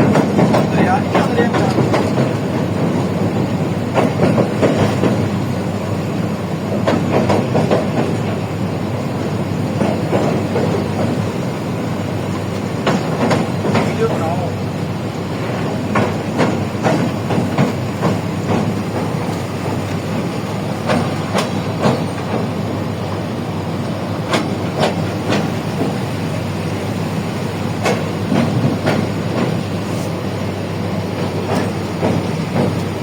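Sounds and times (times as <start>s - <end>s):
wheel clacks over rail joints: 0.0s - 14.6s, 15.2s - 30.2s, 31.0s - 33.0s
train rumbling on rails: 0.0s - 33.0s.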